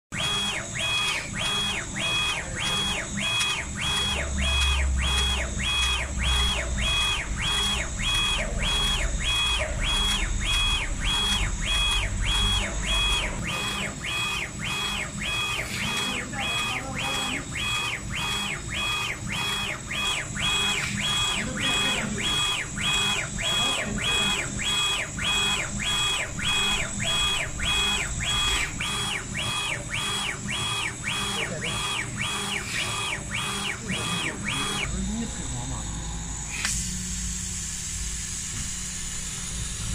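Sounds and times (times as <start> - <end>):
stepper motors whining: 0.1 - 37.0.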